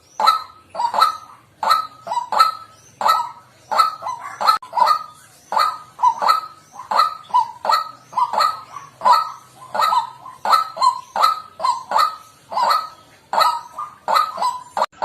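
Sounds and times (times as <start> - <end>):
waterhen harsh calls: 0.0 - 15.0.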